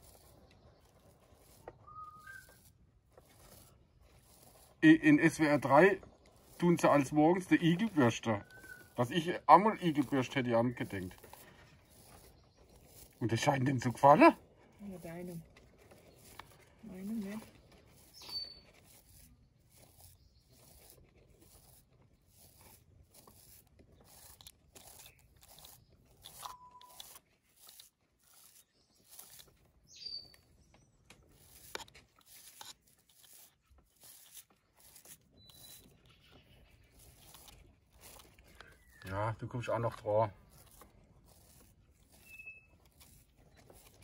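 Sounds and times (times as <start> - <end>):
toothbrush scratching hedgehog spines: 0.0 - 44.0.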